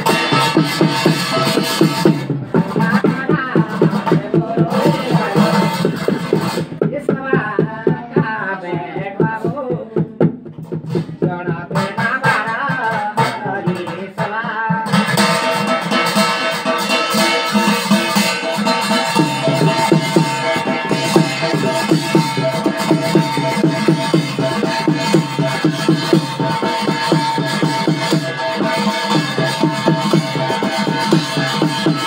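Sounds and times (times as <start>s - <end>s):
people singing: 0.0s - 10.1s, 11.2s - 32.0s
fast steady drumming: 0.0s - 32.0s.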